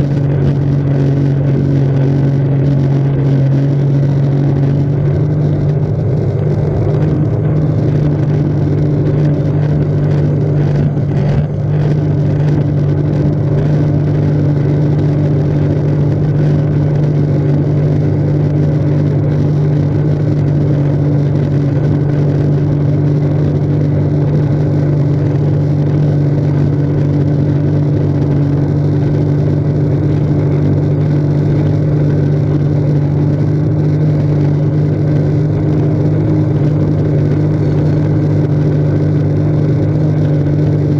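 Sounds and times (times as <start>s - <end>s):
jet ski engine running: 0.0s - 40.9s.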